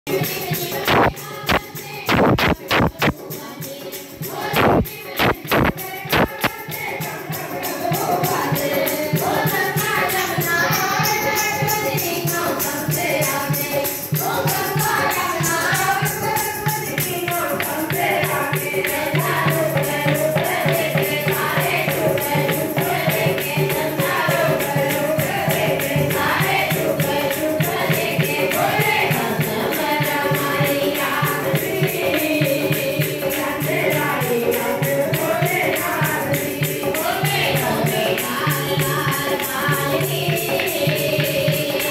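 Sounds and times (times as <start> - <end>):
jingling hand percussion: 0.0 - 41.9
women singing together: 0.1 - 41.9.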